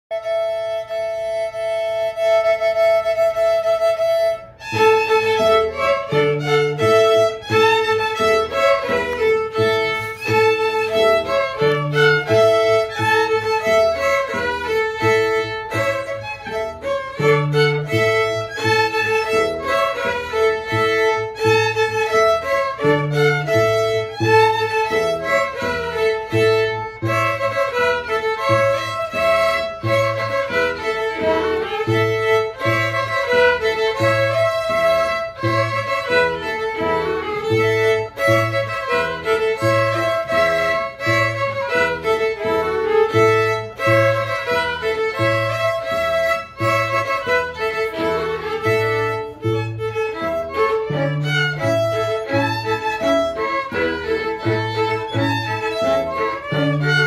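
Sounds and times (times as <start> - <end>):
bowed cello bass line: 0.1 - 57.0
string quartet playing: 0.1 - 57.0.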